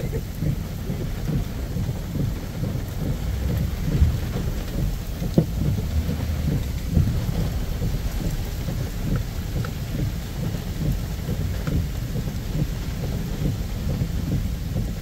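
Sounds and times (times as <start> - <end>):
gusting wind: 0.0 - 15.0
heavy rain on a truck: 0.0 - 15.0.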